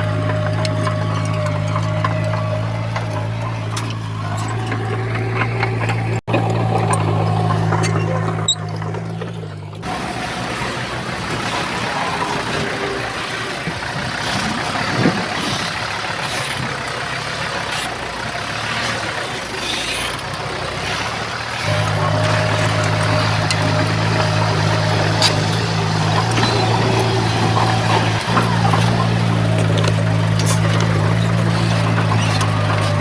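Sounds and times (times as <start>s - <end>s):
heavy machinery engines running: 0.0s - 33.0s
low engine drone: 0.0s - 33.0s.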